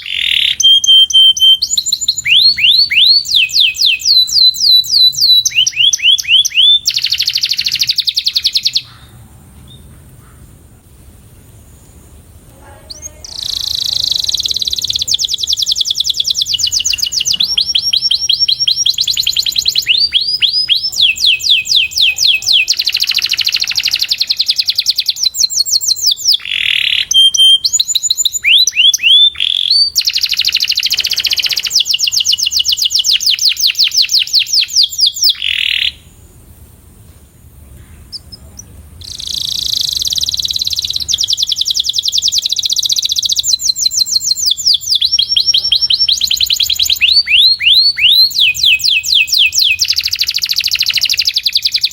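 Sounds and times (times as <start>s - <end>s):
canary singing rapid trills: 0.0s - 9.1s, 12.7s - 36.2s, 38.0s - 51.9s.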